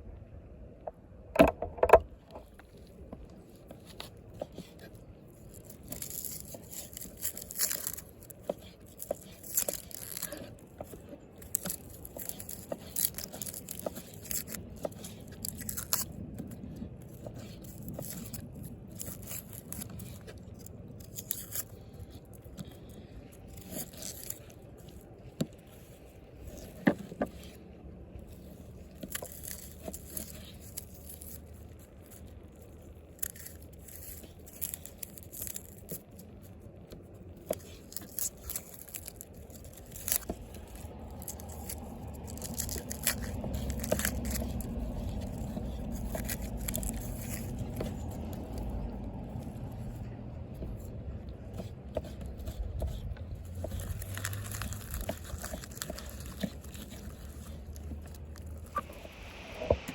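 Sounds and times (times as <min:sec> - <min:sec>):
food scraping cutting and tearing: 0:02.2 - 0:59.9.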